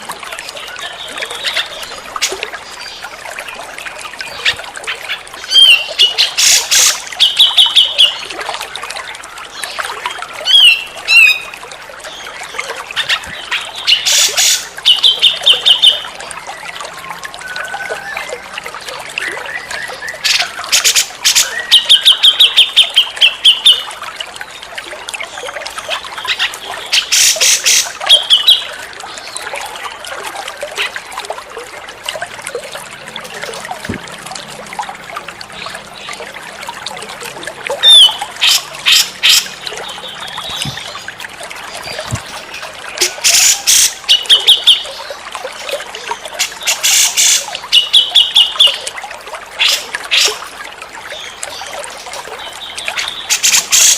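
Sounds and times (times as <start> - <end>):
running water trickling: 0.0 - 53.9.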